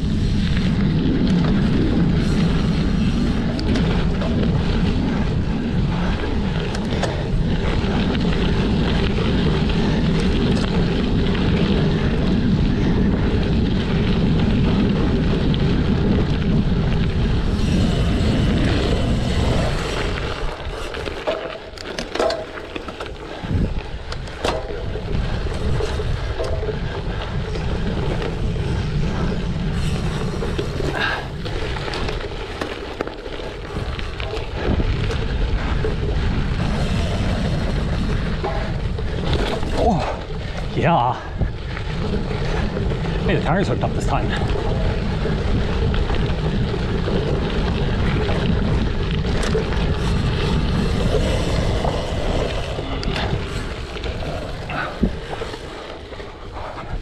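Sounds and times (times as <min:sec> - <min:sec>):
bike rattles and knocks: 0:00.0 - 0:57.0
bike tyre rumble: 0:00.0 - 0:57.0
wind rushing over microphone: 0:00.0 - 0:57.0.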